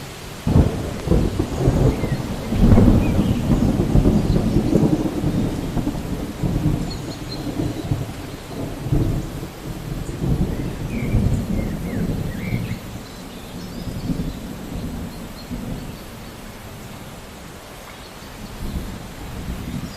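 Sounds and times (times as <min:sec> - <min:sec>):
steady rain: 0:00.0 - 0:19.9
thunder rumbling: 0:00.4 - 0:17.4, 0:18.4 - 0:19.9.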